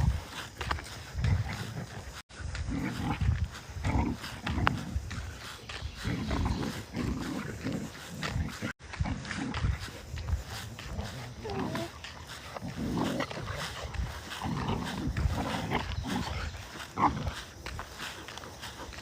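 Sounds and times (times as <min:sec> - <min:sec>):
dogs growling: 0:00.0 - 0:19.0.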